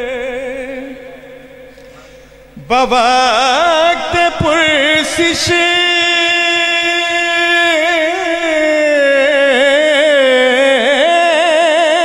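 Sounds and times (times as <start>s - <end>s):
man singing unaccompanied: 0.0s - 1.6s, 2.6s - 12.0s.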